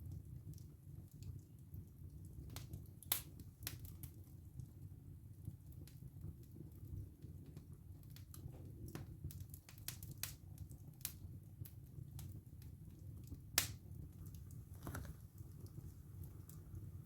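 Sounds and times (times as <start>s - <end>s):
wood fire crackling and popping: 0.0s - 17.0s
fire low rumble: 0.1s - 17.0s.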